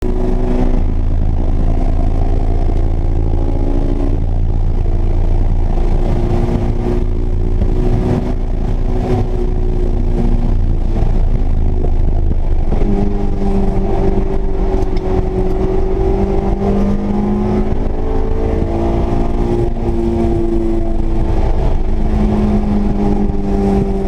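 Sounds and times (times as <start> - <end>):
car engine running hard: 0.0 - 24.0.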